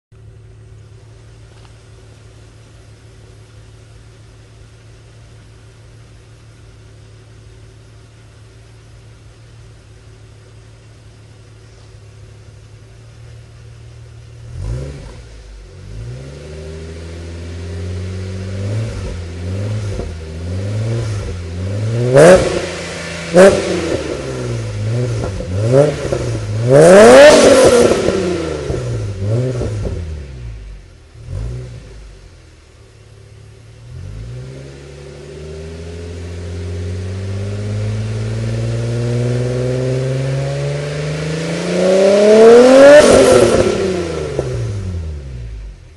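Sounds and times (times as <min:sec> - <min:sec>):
car engine idling and revving: 0:00.1 - 0:45.9.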